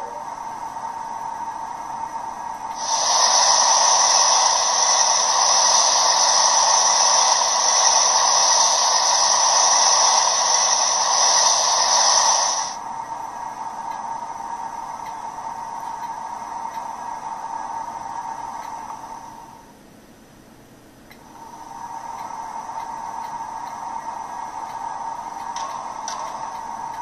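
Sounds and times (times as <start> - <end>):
steam hiss from small speaker: 0.0 - 19.7, 21.2 - 27.0.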